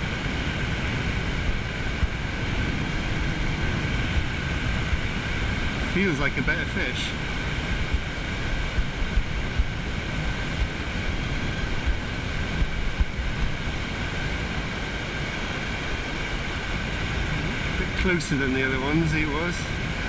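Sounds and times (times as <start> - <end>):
faint high whine: 0.0 - 20.0
wind buffeting microphone: 0.0 - 20.0.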